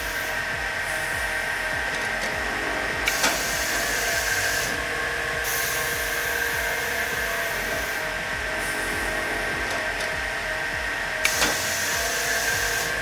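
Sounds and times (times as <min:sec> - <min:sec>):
hiss: 0:00.0 - 0:13.0
miter saw whine: 0:00.0 - 0:13.0
sharp clicks: 0:00.0 - 0:13.0.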